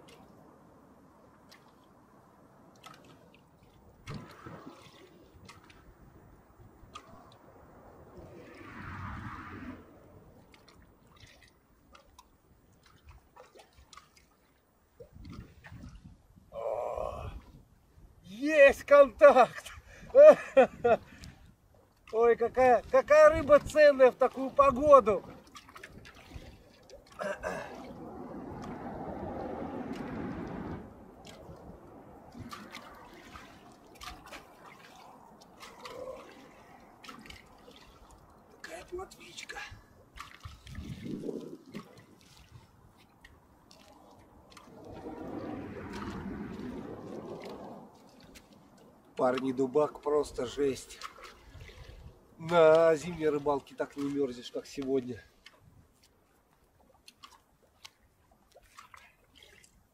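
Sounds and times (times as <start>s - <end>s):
water slaps and drips: 0.0s - 0.4s, 1.3s - 2.0s, 2.6s - 16.1s, 18.8s - 59.9s
waves lapping against concrete: 0.0s - 59.9s.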